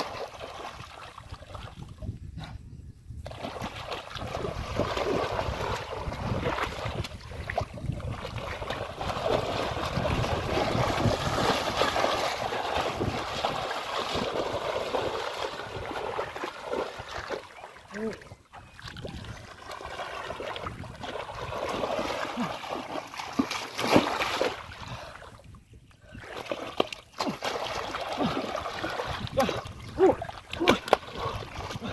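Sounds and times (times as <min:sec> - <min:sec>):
muddy water sloshing and splashing: 0:00.0 - 0:31.9.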